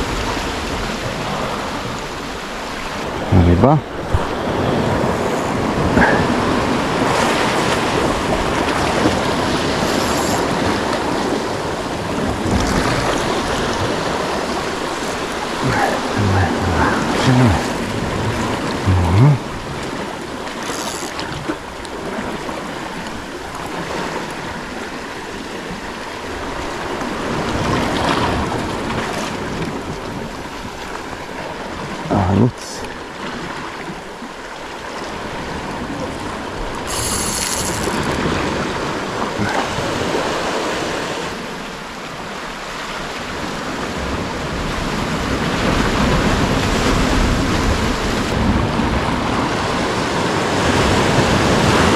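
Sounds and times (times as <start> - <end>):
sea waves washing against rocks: 0.0 - 51.9.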